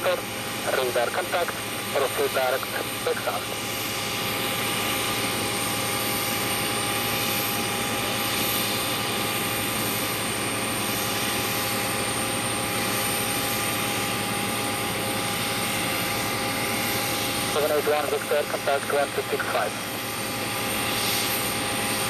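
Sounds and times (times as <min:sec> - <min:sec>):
jet turbine roar and whine: 0:00.0 - 0:22.0.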